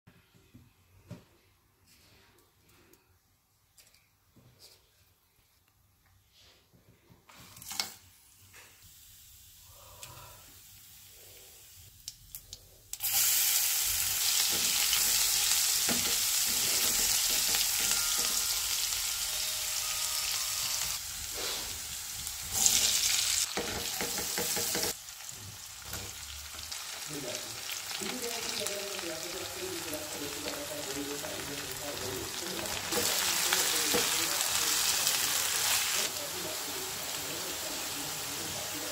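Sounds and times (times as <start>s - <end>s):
hot oil sizzling: 7.6s - 38.9s.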